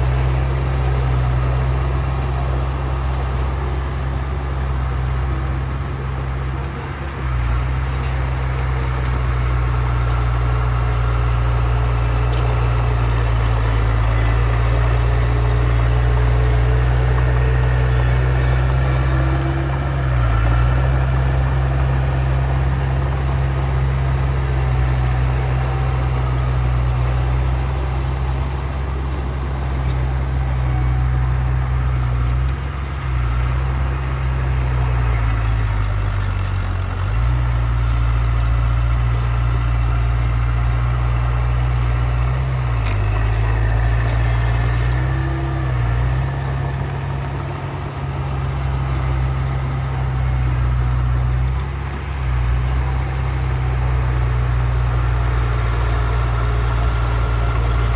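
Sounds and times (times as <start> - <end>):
heavy diesel engine droning: 0.0 - 57.9.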